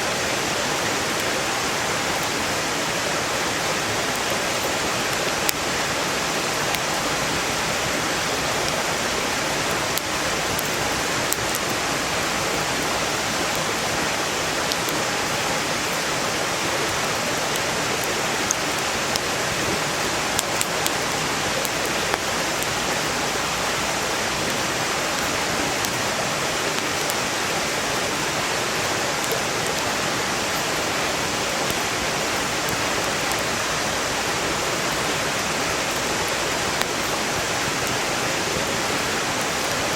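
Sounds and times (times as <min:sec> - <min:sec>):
stream rushing: 0:00.0 - 0:39.9
firewood crackling and popping: 0:00.1 - 0:39.9.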